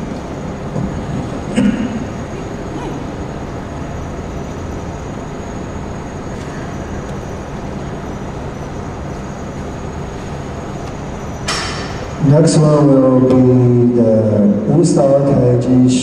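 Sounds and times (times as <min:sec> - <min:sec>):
low hum: 0:00.0 - 0:16.0
rumble and hiss: 0:00.0 - 0:16.0.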